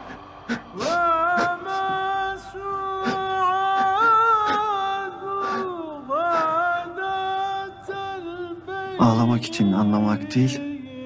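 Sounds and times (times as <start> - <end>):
solo voice singing wordless melody: 0.7 - 11.0.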